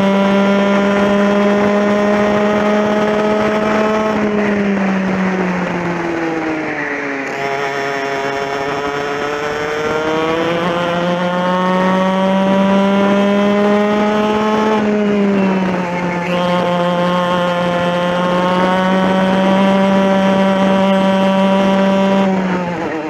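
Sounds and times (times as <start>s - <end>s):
kart engine revving: 0.0s - 23.0s.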